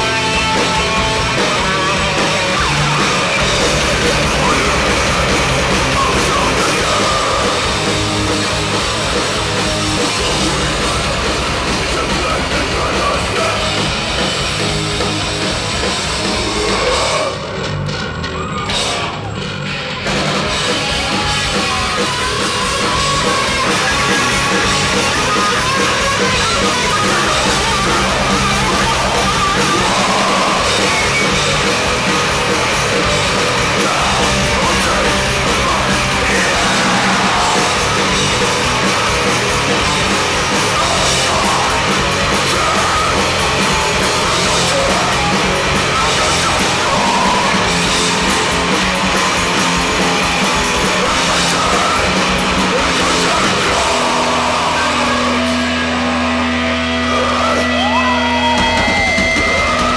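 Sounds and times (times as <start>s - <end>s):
shouted vocals: 0.0s - 10.9s, 15.9s - 59.9s
punk band playing live: 0.0s - 59.9s.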